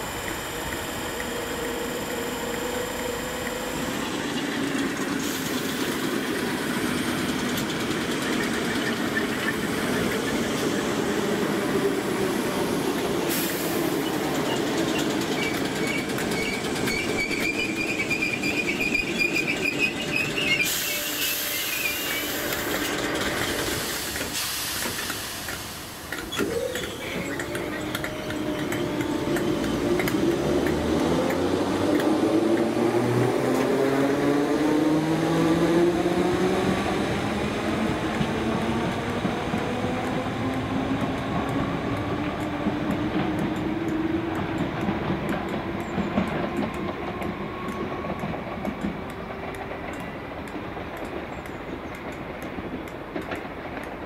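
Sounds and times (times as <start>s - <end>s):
electric train motors whining: 0.0s - 51.2s
wheels clacking over rail joints: 2.5s - 11.5s, 13.9s - 20.7s, 22.5s - 34.0s, 37.2s - 54.0s.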